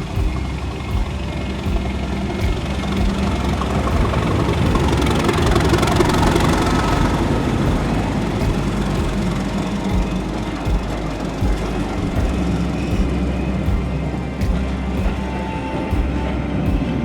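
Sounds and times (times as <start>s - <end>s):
locomotive engine throbbing: 0.0s - 17.0s.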